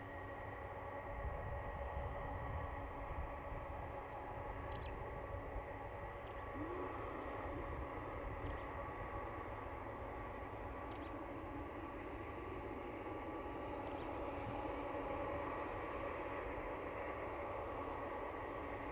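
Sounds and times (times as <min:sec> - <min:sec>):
jet engines running: 0:00.0 - 0:18.9.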